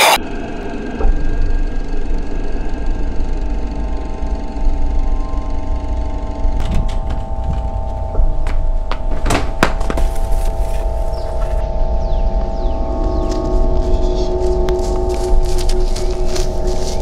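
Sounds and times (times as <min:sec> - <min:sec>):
faint humming tones: 0:00.0 - 0:17.0
low rumble: 0:00.2 - 0:17.0.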